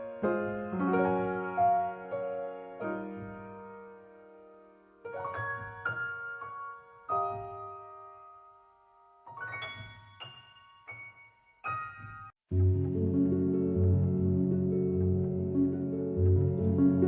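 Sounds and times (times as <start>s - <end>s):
soft solo piano: 0.0s - 17.0s.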